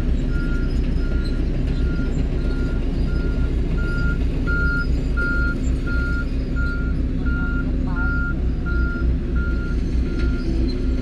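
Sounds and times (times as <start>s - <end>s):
diesel engine rumble: 0.0s - 11.0s
reversing alarm beeping: 0.3s - 10.6s.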